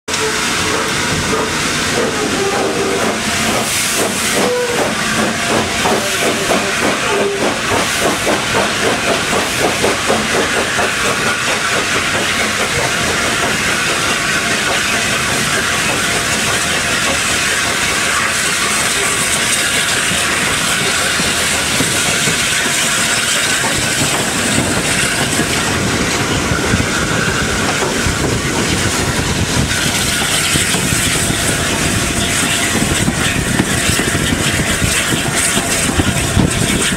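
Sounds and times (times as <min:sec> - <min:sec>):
steam hiss and running noise: 0:00.1 - 0:36.9
steam locomotive exhaust beats: 0:00.1 - 0:36.9.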